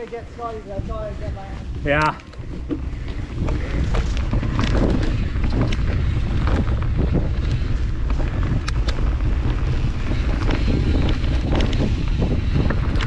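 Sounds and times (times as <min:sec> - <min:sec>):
wind buffeting microphone: 0:00.0 - 0:13.0
bike clicks and knocks: 0:01.8 - 0:13.0.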